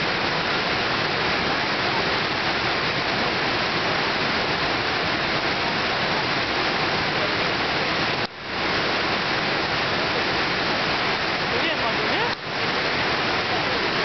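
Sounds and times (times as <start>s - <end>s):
waterfall rushing into pool: 0.0s - 14.0s.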